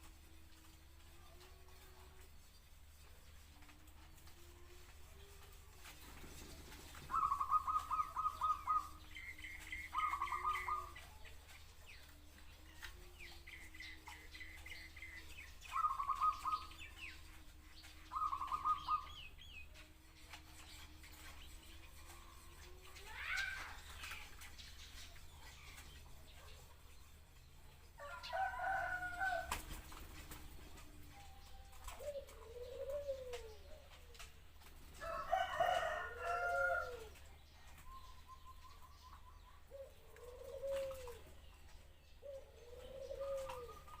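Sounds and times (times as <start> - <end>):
dove cooing: 3.6 - 26.8, 28.0 - 44.0.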